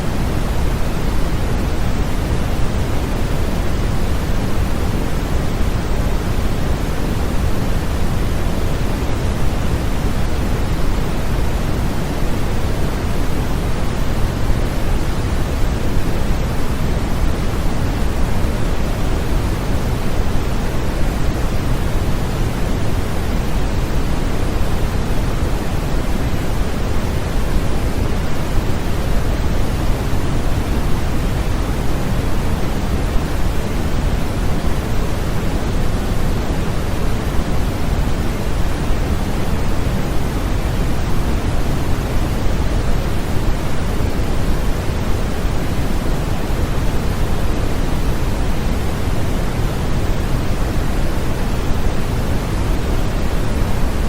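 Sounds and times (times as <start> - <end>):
deep soft white noise: 0.0 - 54.0.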